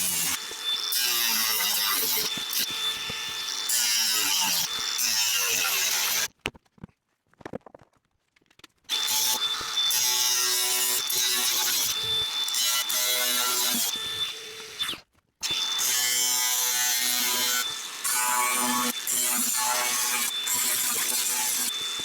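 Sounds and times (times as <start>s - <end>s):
power tool whining on metal: 0.0s - 6.3s, 8.9s - 22.0s.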